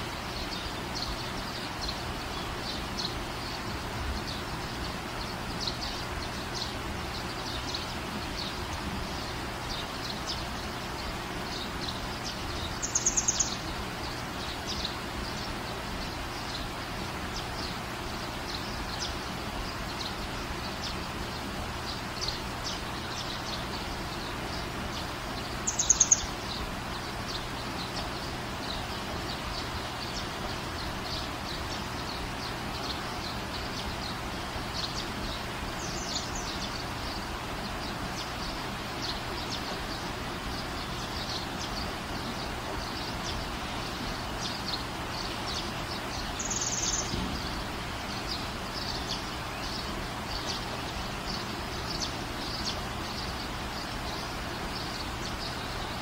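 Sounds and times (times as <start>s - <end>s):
small birds chirping: 0.0s - 56.0s
steady background noise: 0.0s - 56.0s
rapid bird trill: 0.2s - 56.0s.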